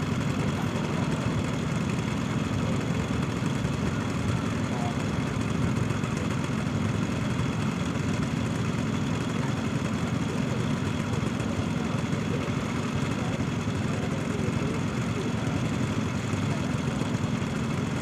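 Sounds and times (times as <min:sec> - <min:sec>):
locomotive engine droning: 0:00.0 - 0:18.0.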